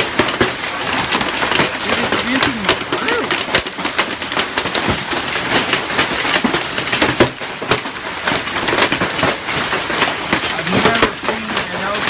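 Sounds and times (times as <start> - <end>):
hailstones pelting hard surfaces: 0.0 - 12.0
hiss of falling ice and rain: 0.0 - 12.0.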